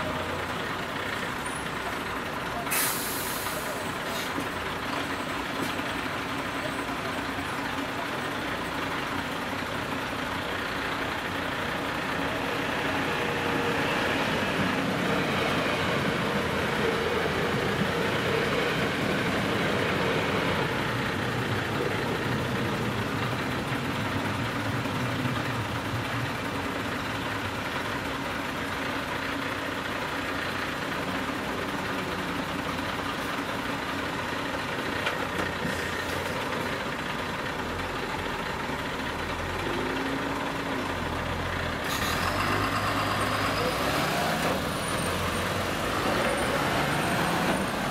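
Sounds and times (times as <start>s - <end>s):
vehicles idling: 0.0s - 47.9s.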